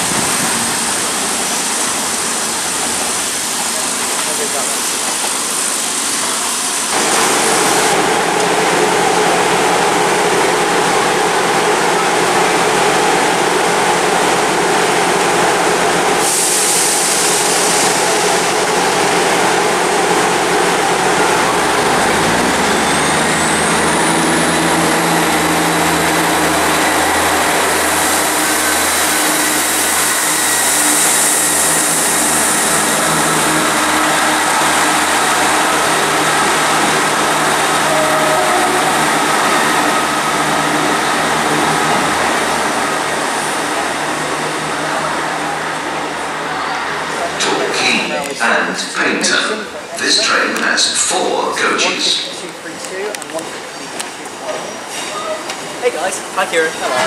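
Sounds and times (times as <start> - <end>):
diesel train engines running: 0.0 - 57.0.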